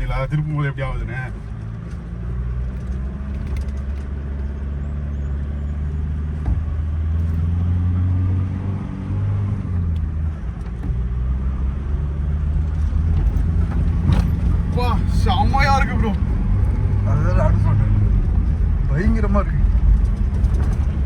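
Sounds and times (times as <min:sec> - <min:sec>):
pickup truck engine droning: 0:00.0 - 0:21.0.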